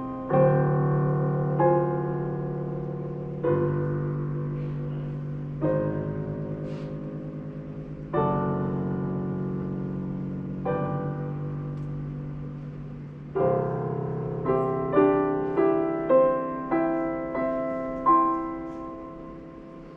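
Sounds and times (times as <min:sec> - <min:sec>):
solo piano playing slowly: 0:00.0 - 0:19.9.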